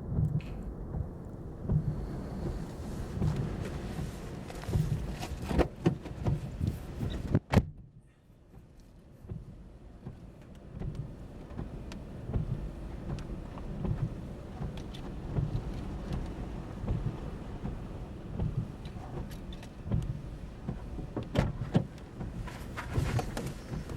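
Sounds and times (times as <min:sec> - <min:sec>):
road and wind noise in car: 0:00.0 - 0:23.9.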